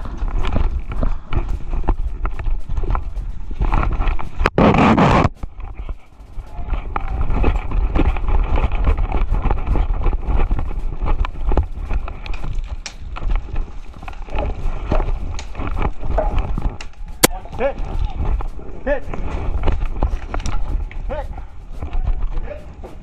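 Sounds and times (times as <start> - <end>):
crunching footsteps: 0.0 - 23.0
gear rustle: 0.0 - 23.0
microphone handling noise: 0.0 - 23.0
wind rumble: 0.0 - 23.0.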